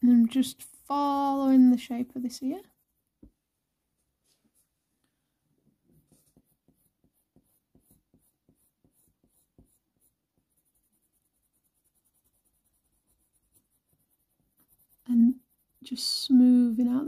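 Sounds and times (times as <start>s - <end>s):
pencil scratching on paper: 0.4s - 3.3s, 5.9s - 17.0s.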